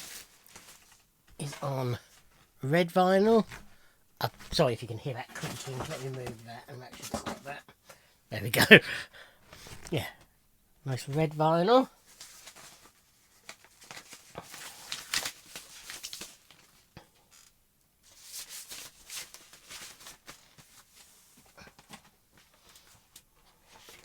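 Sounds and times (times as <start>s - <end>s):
paper record sleeves rustling: 0.0s - 7.6s, 10.9s - 16.9s, 18.0s - 24.0s.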